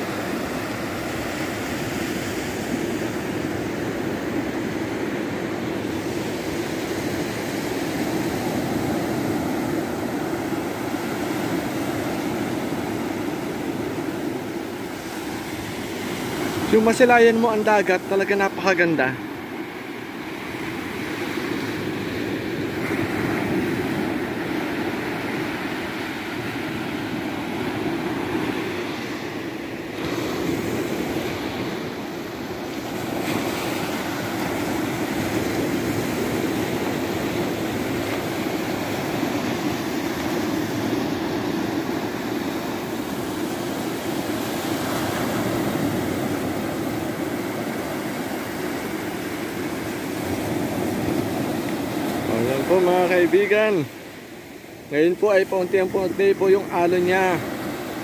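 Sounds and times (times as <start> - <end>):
small waves breaking on sand: 0.0 - 58.0.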